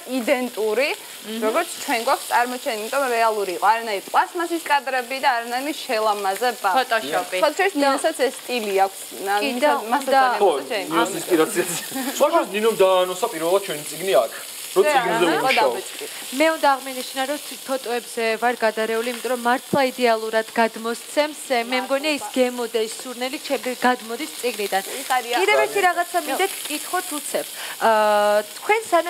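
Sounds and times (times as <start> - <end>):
woman talking: 0.0 - 11.2, 14.8 - 29.0
food sizzling in a pan: 0.0 - 29.0.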